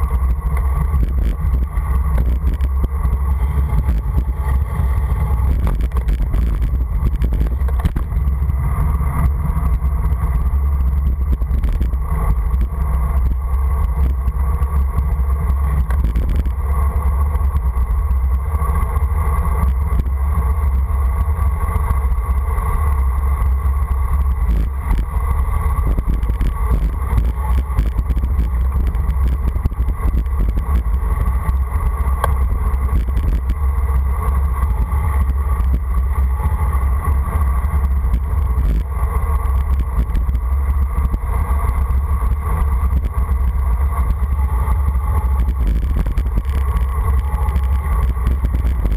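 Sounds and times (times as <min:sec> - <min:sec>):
road rumble from asphalt: 0:00.0 - 0:48.9
wind buffeting microphone: 0:00.0 - 0:48.9.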